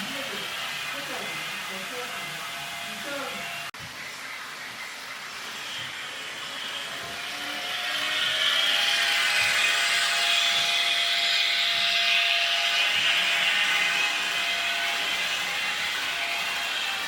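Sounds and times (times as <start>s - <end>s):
model train motor whine: 0.0s - 17.0s
wheels rolling on rails: 0.0s - 17.0s.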